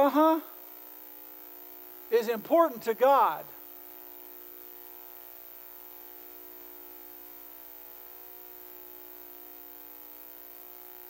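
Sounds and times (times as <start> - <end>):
buzzing electrical hum: 0.0 - 11.0.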